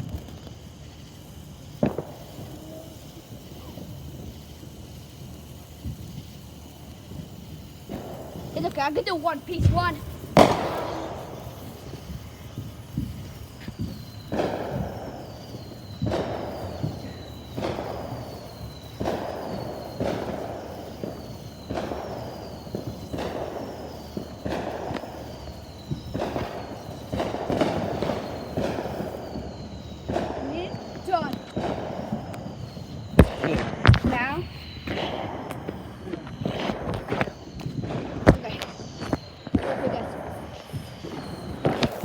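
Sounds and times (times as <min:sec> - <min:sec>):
fireworks bangs: 0:00.0 - 0:42.0.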